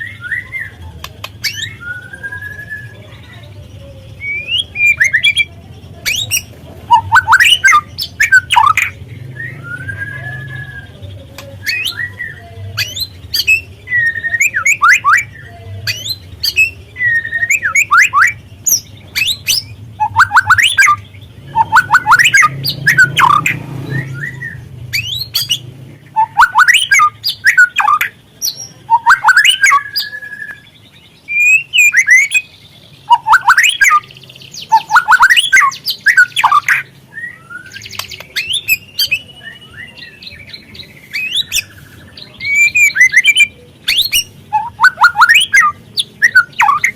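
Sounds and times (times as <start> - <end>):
bird calling with clicks and whistles: 6.1 - 9.0, 9.9 - 30.7, 31.3 - 32.5, 33.1 - 41.8, 42.4 - 46.9.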